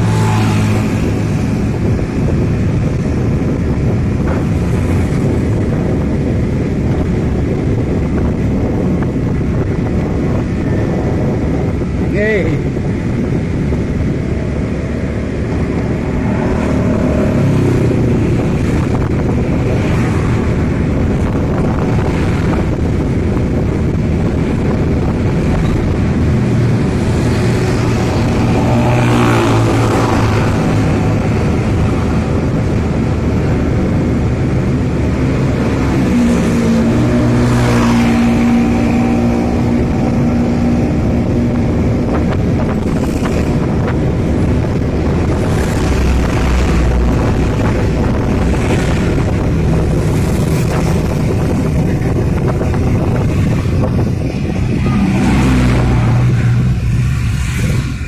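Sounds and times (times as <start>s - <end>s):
vehicle engine and tyre noise: 0.0s - 58.0s.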